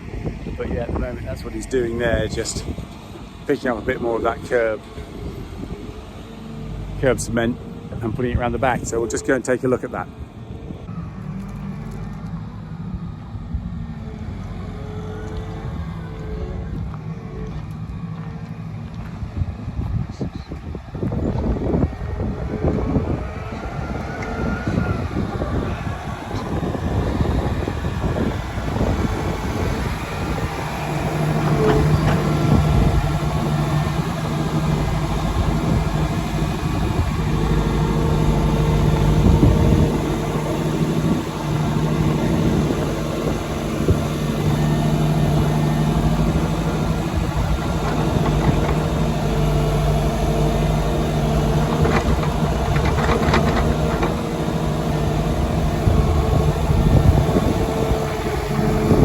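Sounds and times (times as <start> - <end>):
machine engine running: 10.0 - 59.0.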